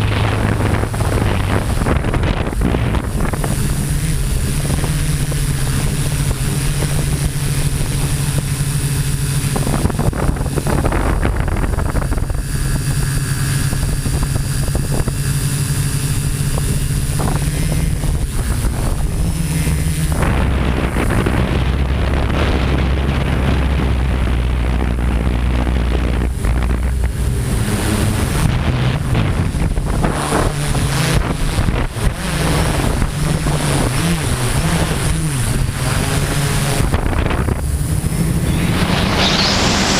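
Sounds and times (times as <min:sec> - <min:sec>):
drone propellers buzzing: 0:00.0 - 0:39.9
wind buffeting microphone: 0:00.0 - 0:39.9.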